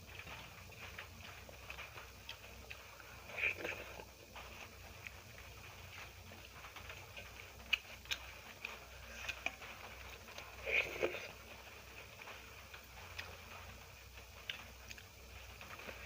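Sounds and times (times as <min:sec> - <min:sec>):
person chewing: 0:00.1 - 0:11.5, 0:14.4 - 0:16.0.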